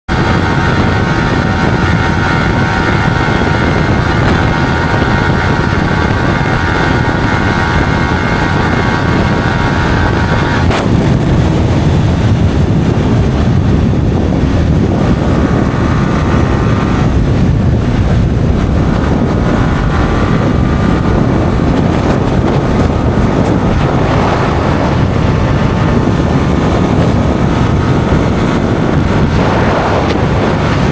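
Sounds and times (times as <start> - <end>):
steady whine: 0.1 - 30.9
vehicle running at speed: 0.1 - 30.9
wind noise on microphone: 0.1 - 30.9.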